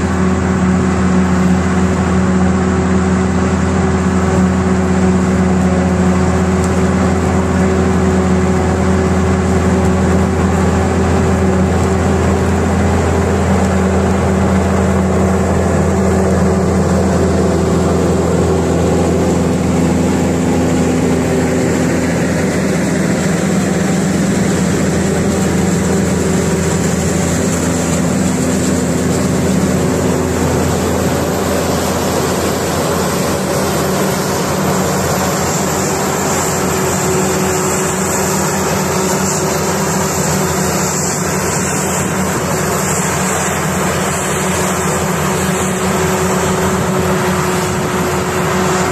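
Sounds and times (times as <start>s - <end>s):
diesel farm machinery drone: 0.0s - 48.9s.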